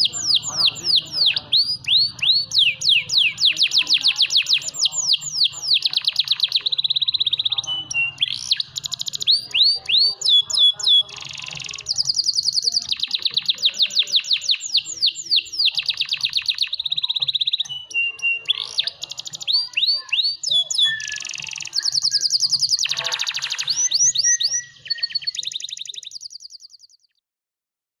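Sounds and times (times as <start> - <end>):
canary singing trills: 0.0 - 27.2.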